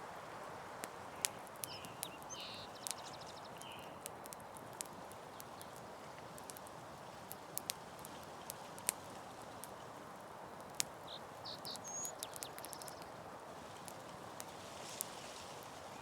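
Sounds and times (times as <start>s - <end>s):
campfire crackling and hissing: 0.0s - 16.0s.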